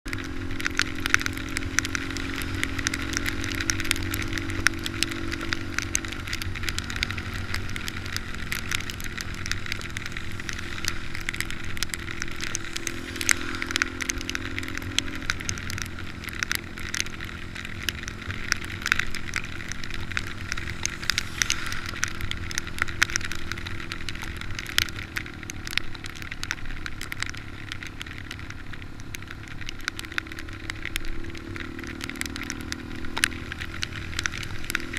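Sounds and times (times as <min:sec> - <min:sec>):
rain and wind on microphone: 0:00.0 - 0:34.9.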